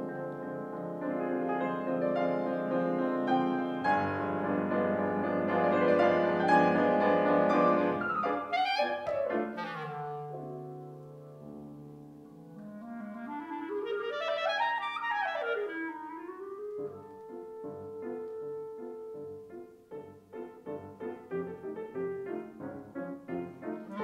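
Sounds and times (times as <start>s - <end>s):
clarinet: 0.0s - 11.6s, 12.4s - 24.0s
piano: 0.0s - 24.0s.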